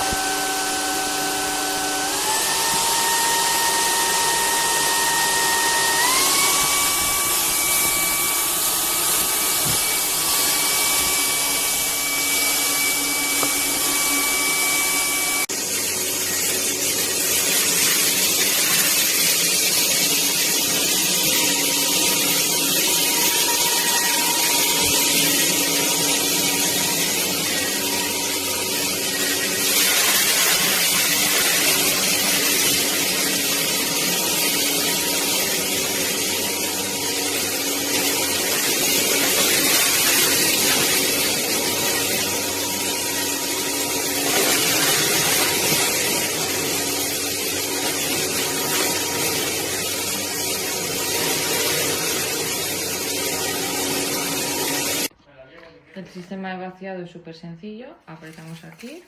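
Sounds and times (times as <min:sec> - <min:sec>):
stick vacuum running: 0:00.0 - 0:55.1.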